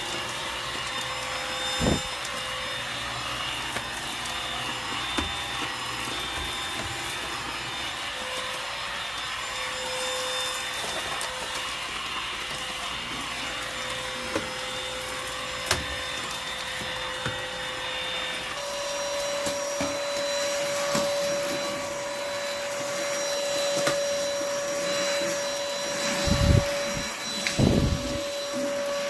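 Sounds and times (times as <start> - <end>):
stick vacuum motor whine: 0.0 - 29.0.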